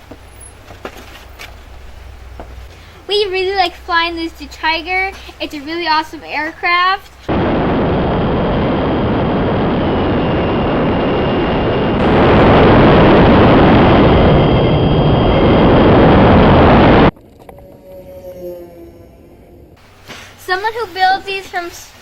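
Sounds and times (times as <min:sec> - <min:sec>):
faint high whine: 0:01.7 - 0:21.7.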